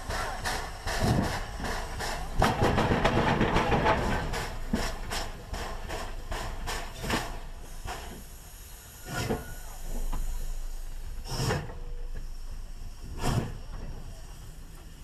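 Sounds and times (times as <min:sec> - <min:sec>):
steam hiss: 0:00.0 - 0:02.6, 0:04.1 - 0:15.0
steam locomotive exhaust beats: 0:00.0 - 0:15.0.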